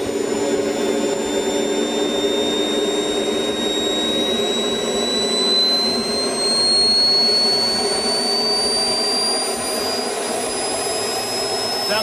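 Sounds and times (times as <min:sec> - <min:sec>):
high turbine whine: 0:00.0 - 0:12.0
turbine engine roar: 0:00.0 - 0:12.0.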